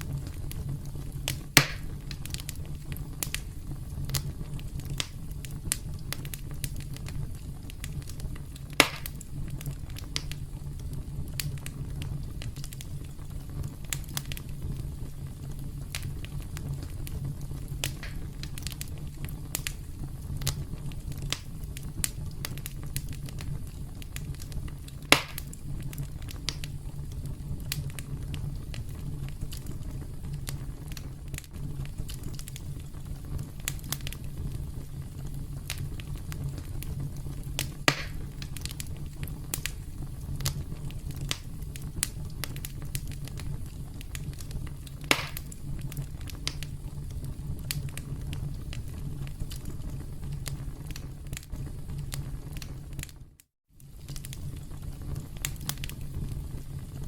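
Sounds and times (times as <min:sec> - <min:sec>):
burning wood popping: 0:00.0 - 0:53.2, 0:53.8 - 0:57.0
campfire crackling: 0:00.0 - 0:57.0.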